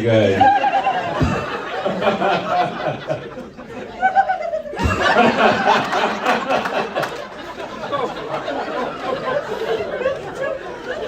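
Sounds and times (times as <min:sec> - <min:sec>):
audience laughing: 0:00.1 - 0:11.0.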